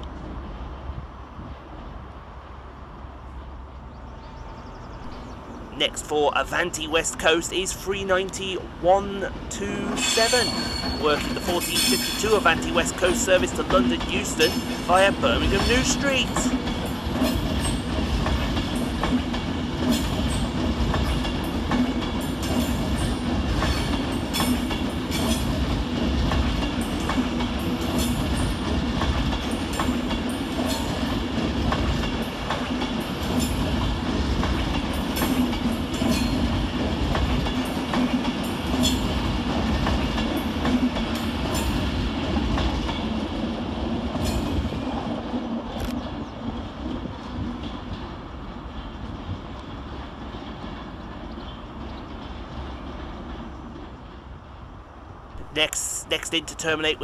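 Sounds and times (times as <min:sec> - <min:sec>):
electric train running rumble: 0:00.0 - 0:57.0.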